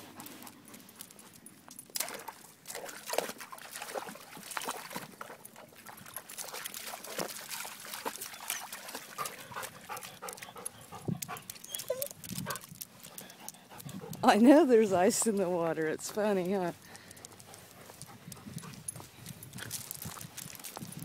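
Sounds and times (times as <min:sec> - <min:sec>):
dog paws splashing in icy water: 0:00.2 - 0:21.0.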